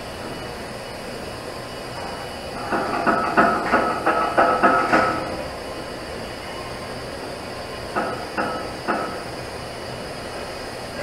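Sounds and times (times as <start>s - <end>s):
welding arc hissing and buzzing: 0.0s - 11.0s.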